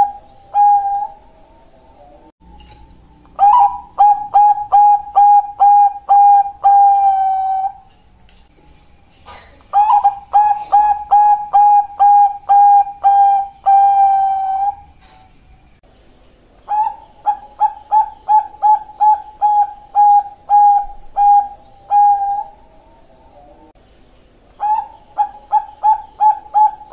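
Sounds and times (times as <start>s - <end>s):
dove cooing: 0.0s - 2.3s, 3.3s - 7.9s, 9.3s - 15.4s, 16.6s - 23.8s, 24.6s - 26.9s.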